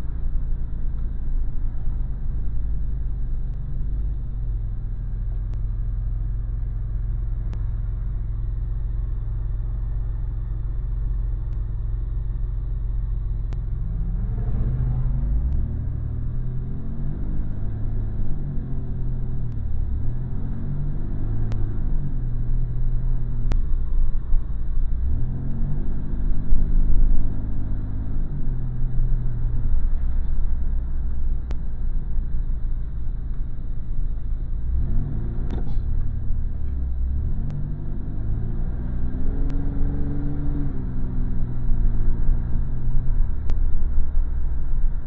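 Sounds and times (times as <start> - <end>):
car engine revving: 0.0 - 45.0
road rumble: 0.0 - 45.0.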